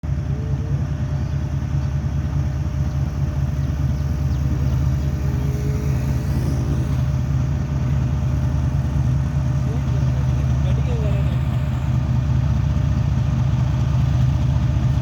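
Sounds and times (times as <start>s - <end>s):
locomotive engine throbbing: 0.0s - 15.0s.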